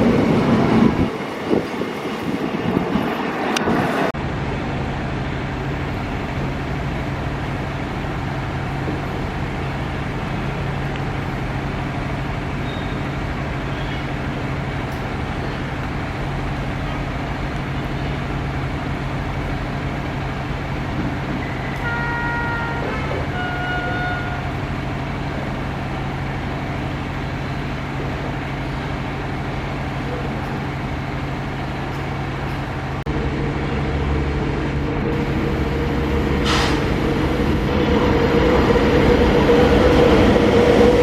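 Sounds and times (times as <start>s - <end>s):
train running rumble: 0.0s - 41.0s.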